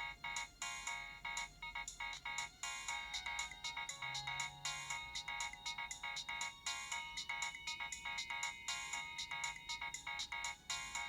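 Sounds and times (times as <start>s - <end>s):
mobile phone ringtone melody: 0.0s - 11.0s.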